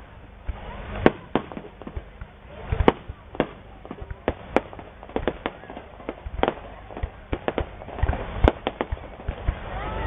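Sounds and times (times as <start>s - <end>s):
fireworks bursting with sharp bangs: 0.0s - 10.0s.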